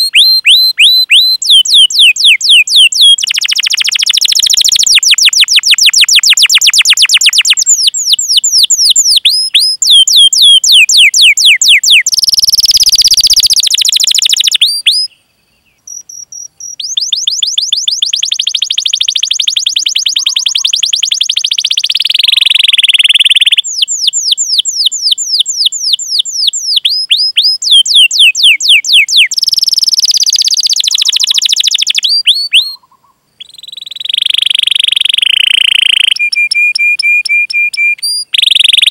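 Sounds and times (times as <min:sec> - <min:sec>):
canary singing chirps and rolls: 0:00.0 - 0:15.1, 0:15.8 - 0:38.9.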